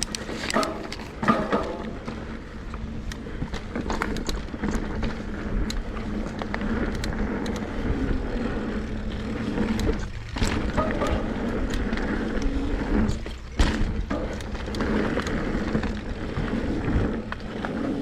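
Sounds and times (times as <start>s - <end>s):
bike clicks and rattles: 0.0s - 18.0s
tyres rumbling on dirt: 0.0s - 18.0s.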